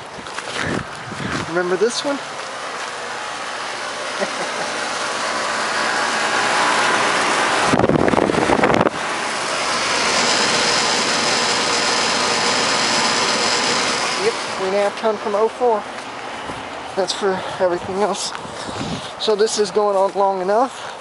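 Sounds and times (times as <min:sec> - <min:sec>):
condensing unit fan rushing air: 0:00.0 - 0:20.6.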